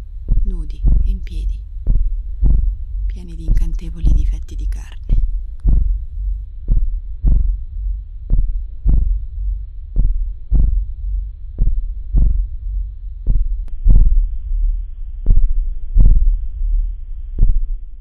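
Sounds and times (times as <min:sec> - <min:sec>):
heartbeat thumps: 0:00.0 - 0:18.0.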